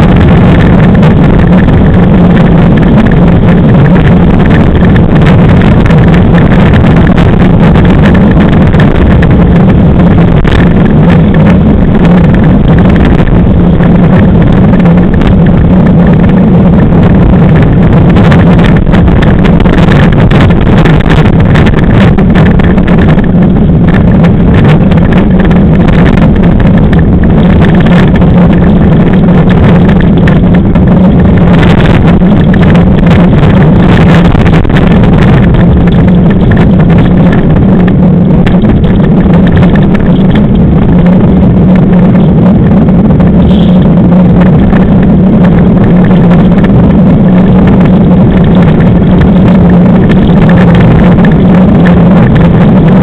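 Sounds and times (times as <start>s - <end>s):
wheels rumbling: 0.0s - 53.0s
wind rushing on microphone: 0.0s - 53.0s.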